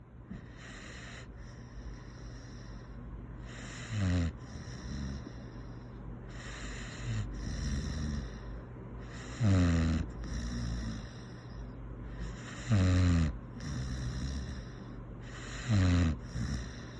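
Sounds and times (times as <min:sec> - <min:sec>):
dog snoring: 0:00.3 - 0:16.9.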